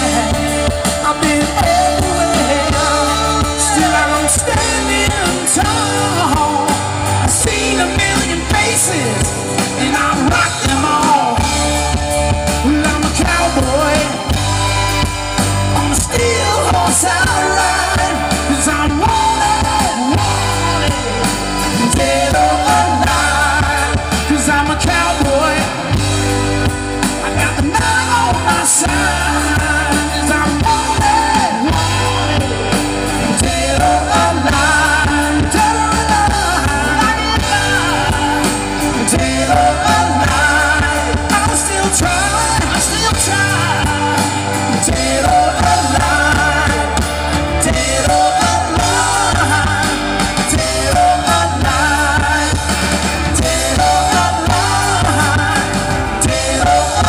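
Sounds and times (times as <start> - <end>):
lead vocal singing: 0.0 - 57.0
live rock band playing: 0.0 - 57.0.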